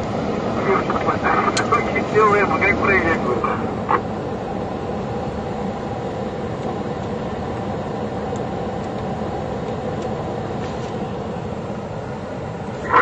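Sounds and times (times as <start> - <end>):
helicopter engines and rotor running: 0.0 - 13.0.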